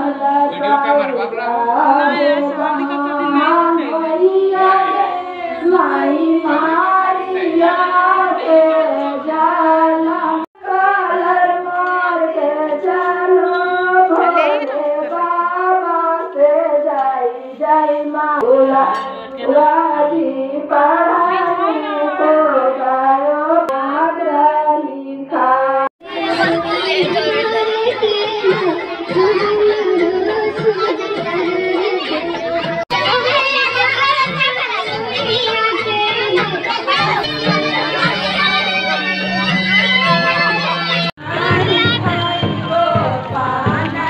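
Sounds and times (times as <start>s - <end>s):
women singing folk song together: 0.0s - 32.6s, 41.2s - 44.0s.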